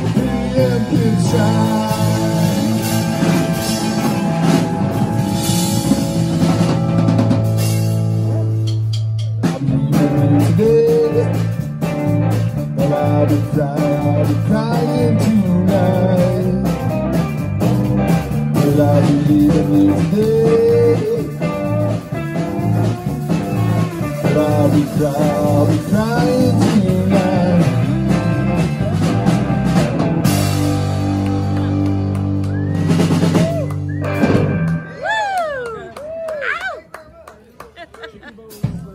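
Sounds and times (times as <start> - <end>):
live rock band playing: 0.0 - 35.8.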